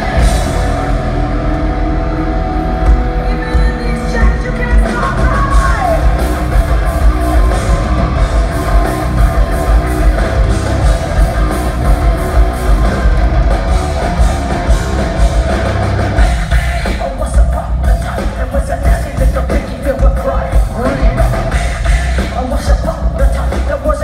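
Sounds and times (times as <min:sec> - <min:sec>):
distorted electric guitars: 0:00.0 - 0:24.0
drums hitting a steady beat: 0:00.0 - 0:24.0
heavy bass: 0:00.0 - 0:24.0.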